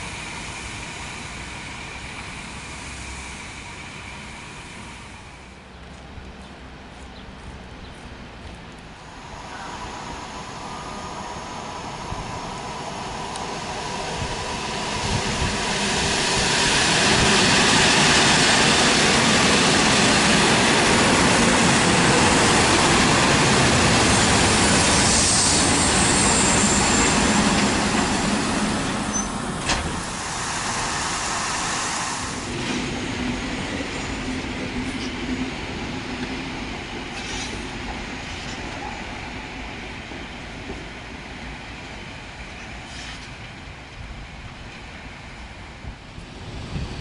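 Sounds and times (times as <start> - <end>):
electric train rolling past: 0.0 - 47.0.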